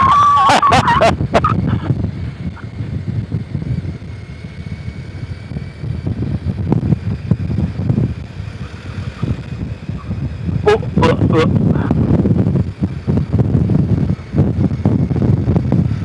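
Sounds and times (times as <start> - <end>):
motorcycle engine rumble: 0.0 - 16.0
wind buffeting: 0.0 - 16.0.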